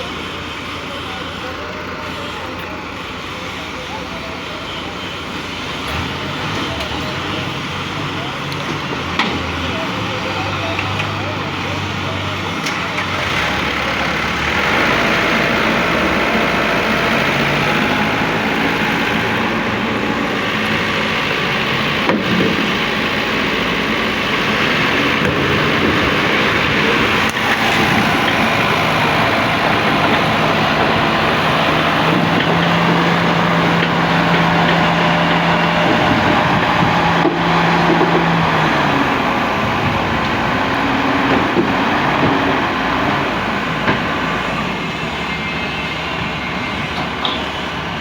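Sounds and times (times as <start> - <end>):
heavy vehicle engine running: 0.0 - 48.0
road traffic: 0.0 - 48.0.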